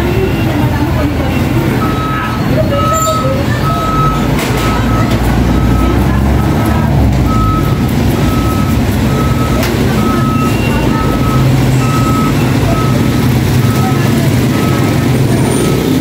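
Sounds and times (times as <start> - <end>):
low engine rumble: 0.0 - 16.0
short electronic beeps: 1.3 - 6.0, 7.3 - 16.0.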